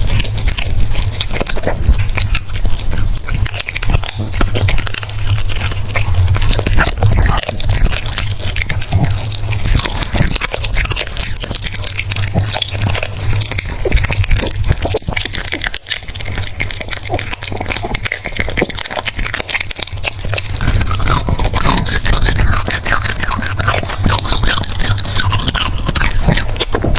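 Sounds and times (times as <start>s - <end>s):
dog chewing and crunching food: 0.0s - 26.9s.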